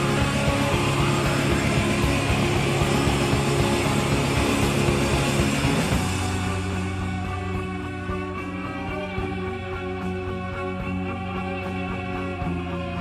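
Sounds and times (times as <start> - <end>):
guitar rock music with bass: 0.0 - 13.0.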